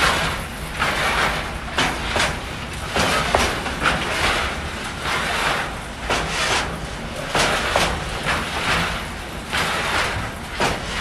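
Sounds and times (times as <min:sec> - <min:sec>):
track clatter: 0:00.0 - 0:11.0
train rumbling: 0:00.0 - 0:11.0.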